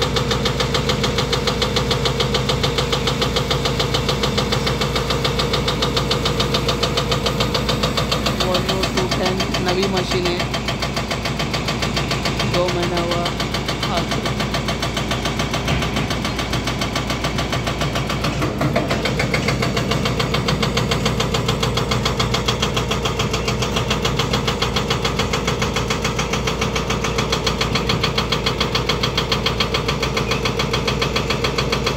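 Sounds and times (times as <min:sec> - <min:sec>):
diesel engine running: 0:00.0 - 0:31.9
hydraulic breaker hammering rock: 0:00.0 - 0:31.9.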